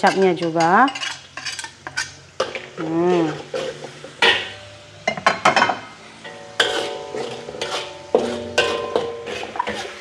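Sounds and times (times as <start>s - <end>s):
metal spatula scraping wok: 0.0s - 10.0s
soft sizzle: 0.0s - 10.0s.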